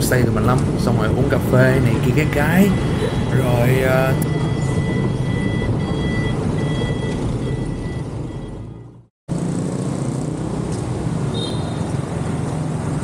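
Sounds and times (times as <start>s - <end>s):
scooter engine and road noise: 0.0s - 13.0s
street traffic: 0.0s - 13.0s.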